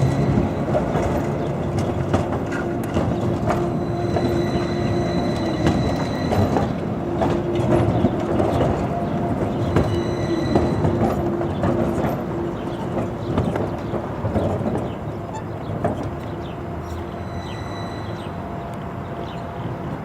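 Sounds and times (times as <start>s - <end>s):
tram whine: 0.0s - 20.0s.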